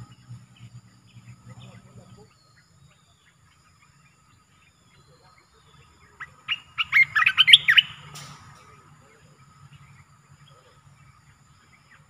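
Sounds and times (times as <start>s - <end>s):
bird chattering song: 0.0s - 12.0s.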